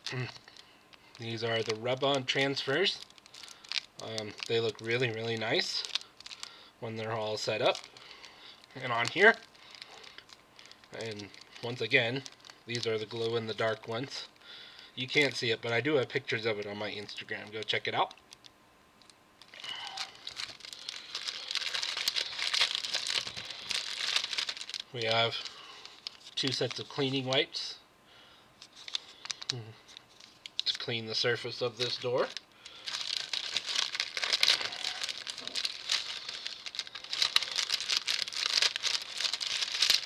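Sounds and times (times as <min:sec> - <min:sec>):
plastic packaging crinkling: 0:00.0 - 0:27.7, 0:28.6 - 0:40.0.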